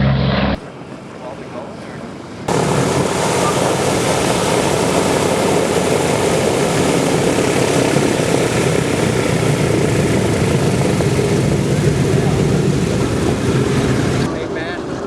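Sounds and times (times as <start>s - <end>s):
propeller aircraft engines running: 0.0s - 15.0s.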